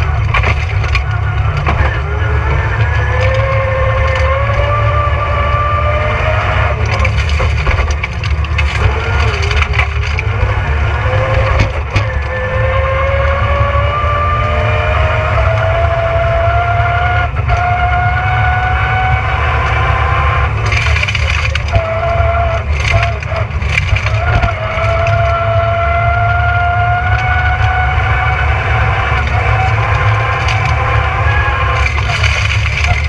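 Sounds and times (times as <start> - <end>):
gravel clatter and crunching: 0.0 - 14.6, 17.0 - 33.0
rally car engine revving: 0.0 - 33.0
road rumble: 0.0 - 33.0.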